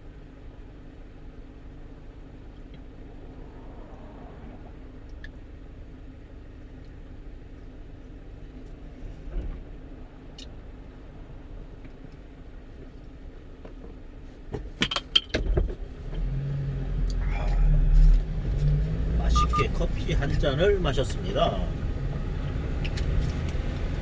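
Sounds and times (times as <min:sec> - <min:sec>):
truck engine and road hum: 0:00.0 - 0:24.0.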